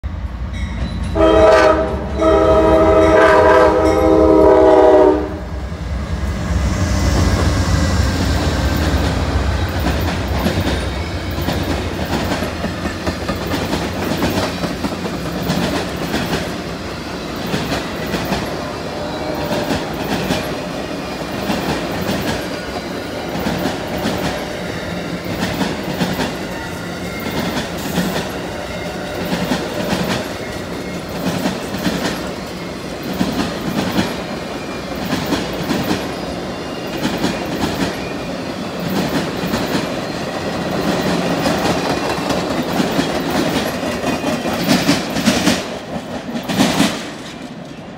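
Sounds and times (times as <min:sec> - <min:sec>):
train rumble: 0:00.0 - 0:47.9.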